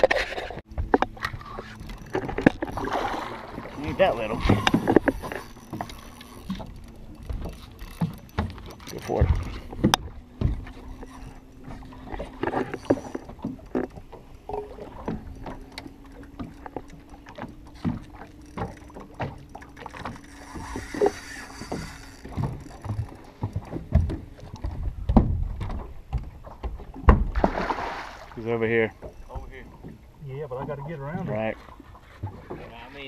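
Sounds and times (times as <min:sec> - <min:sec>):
small waves slapping boat hull: 0:00.0 - 0:33.0.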